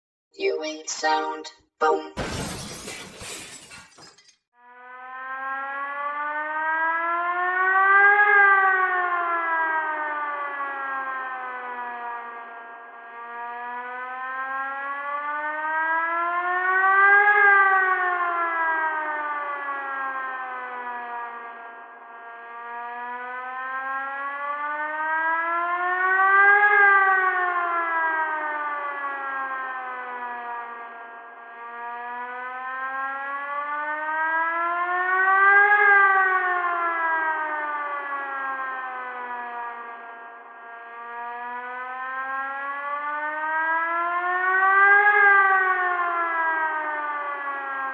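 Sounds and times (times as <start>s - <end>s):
warning siren wailing: 4.0s - 47.9s.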